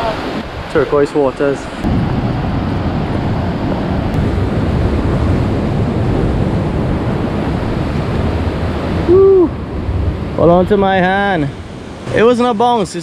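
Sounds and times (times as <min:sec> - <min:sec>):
waves breaking on rocks: 0:00.0 - 0:13.0
wind buffeting microphone: 0:00.0 - 0:13.0.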